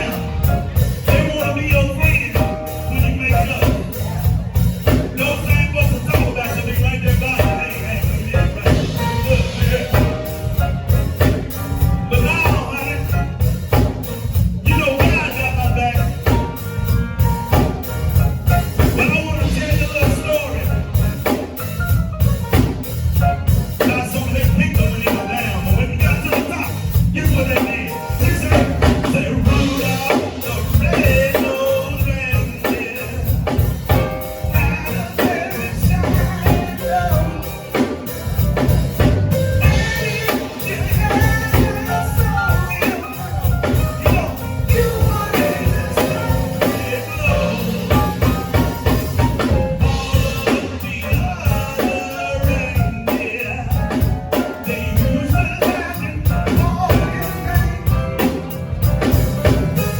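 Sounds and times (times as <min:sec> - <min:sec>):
drum kit: 0:00.0 - 0:59.9
electric bass: 0:00.0 - 0:59.9
keyboards: 0:00.0 - 0:59.9.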